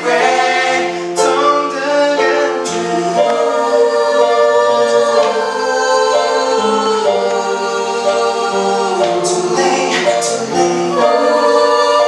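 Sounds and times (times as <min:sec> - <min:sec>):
choir-like held sung note: 0:00.0 - 0:01.8, 0:02.5 - 0:12.0.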